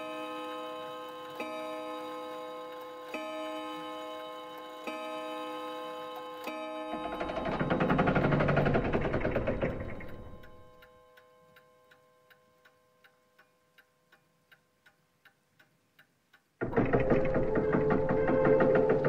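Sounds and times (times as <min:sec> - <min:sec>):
clockwork ticking: 0:00.0 - 0:19.0.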